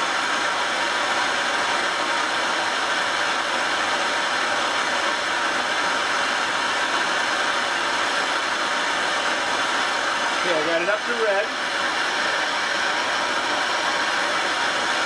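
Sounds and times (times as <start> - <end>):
gas torch hissing: 0.0 - 15.0.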